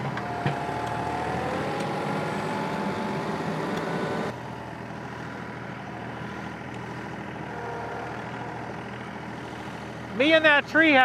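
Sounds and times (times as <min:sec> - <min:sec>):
diesel tractor engine whining: 0:00.0 - 0:11.0.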